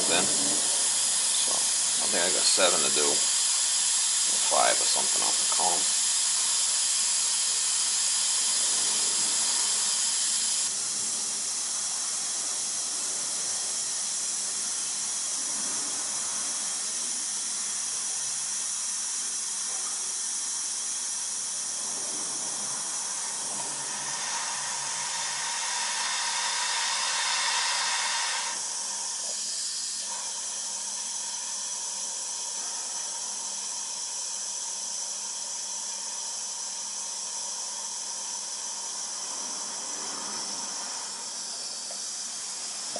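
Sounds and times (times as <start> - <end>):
air hissing from radiator valve: 0.0 - 19.3, 20.4 - 42.9.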